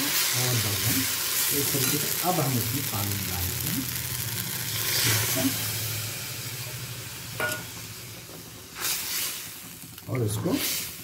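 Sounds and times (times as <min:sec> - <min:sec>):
water hissing in hot pan: 0:00.0 - 0:11.0.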